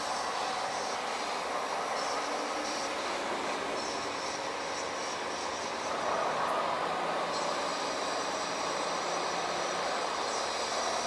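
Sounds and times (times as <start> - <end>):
thin high-pitched whine: 0.0 - 11.0.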